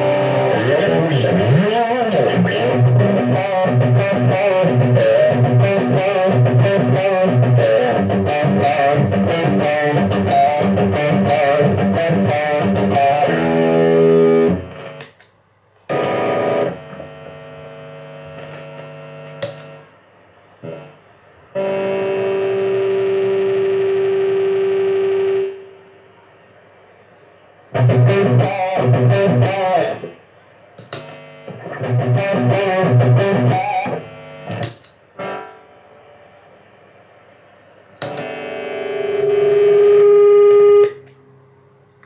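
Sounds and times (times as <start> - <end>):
distorted electric guitar: 0.0 - 15.2, 15.9 - 19.9, 20.6 - 25.8, 27.7 - 30.2, 30.8 - 36.4, 37.9 - 41.5.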